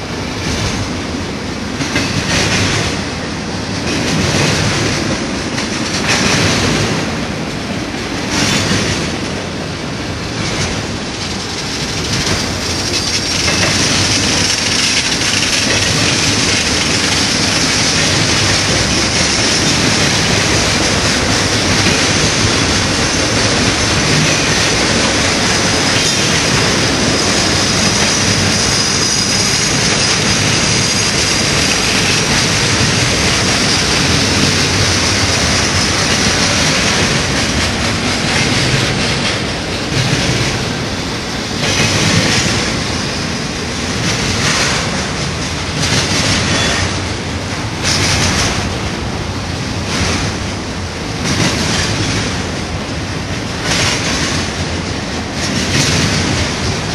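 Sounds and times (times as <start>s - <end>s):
freight train wheels rumbling on rails: 0.0s - 56.9s.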